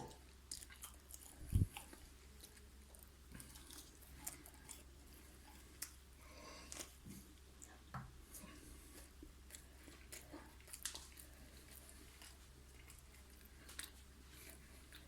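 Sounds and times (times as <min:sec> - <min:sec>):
faint crunches and mouth clicks: 0:00.0 - 0:15.0
person chewing food: 0:00.0 - 0:15.0.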